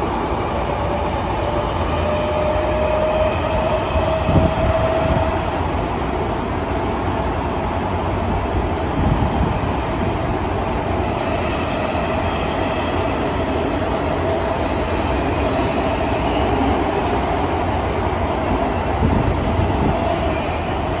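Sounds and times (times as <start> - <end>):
steady train hum: 0.0 - 21.0
train wheels rumbling on rails: 0.0 - 21.0.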